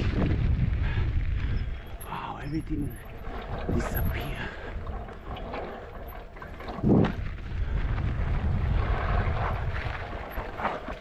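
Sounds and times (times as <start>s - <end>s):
bike rumbling on dirt trail: 0.0s - 11.0s
wind buffeting microphone: 0.0s - 11.0s.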